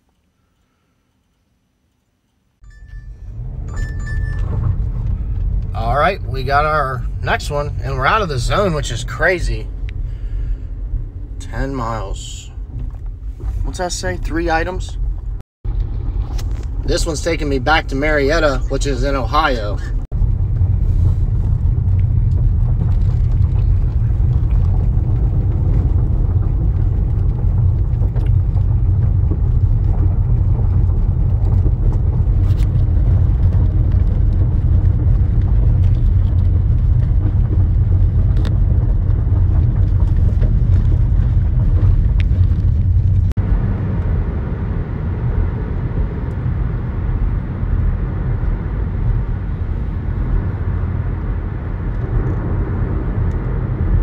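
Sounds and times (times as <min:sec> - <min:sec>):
road hum on pavement: 0:02.4 - 0:54.0
road noise on gravel: 0:02.6 - 0:54.0.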